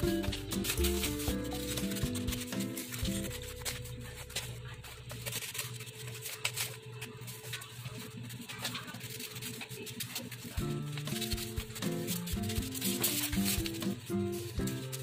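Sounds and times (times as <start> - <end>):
paper rustling: 0.0 - 15.0
scissors snipping paper: 0.0 - 15.0.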